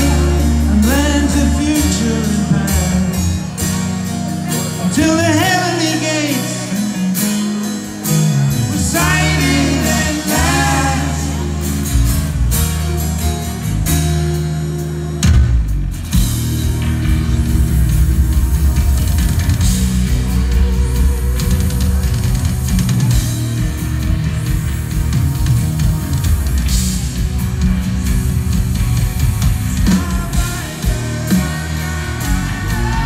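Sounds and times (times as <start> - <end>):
distorted electric guitars: 0.0 - 33.0
drums: 0.0 - 33.0
rock band playing: 0.0 - 33.0.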